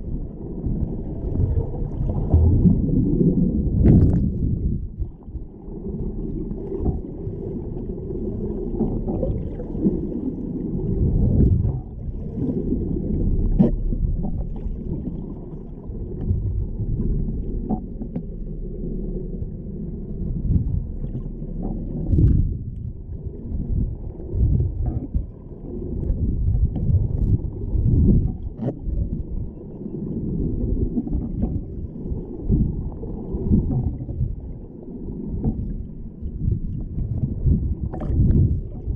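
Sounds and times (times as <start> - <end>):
underwater rumble: 0.0 - 38.9.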